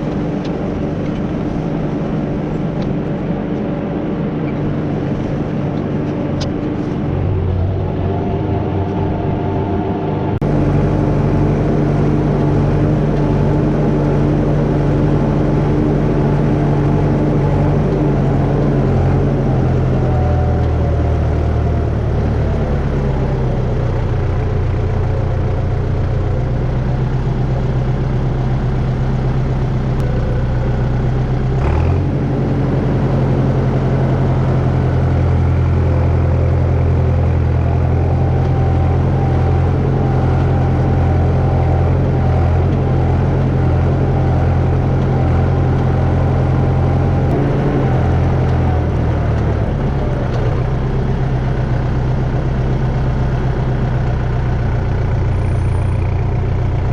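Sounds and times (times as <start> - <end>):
heavy vehicle engine running: 0.0 - 56.9.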